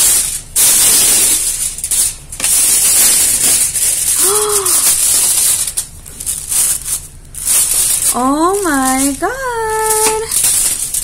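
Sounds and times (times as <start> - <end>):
foil and plastic bag crinkling: 0.0 - 11.0.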